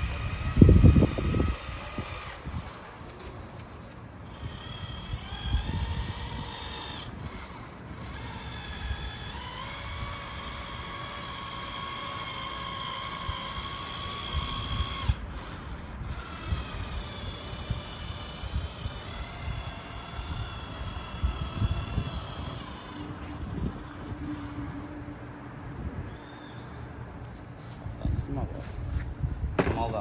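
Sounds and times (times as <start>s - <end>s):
power tool motor whining: 0.0s - 25.2s.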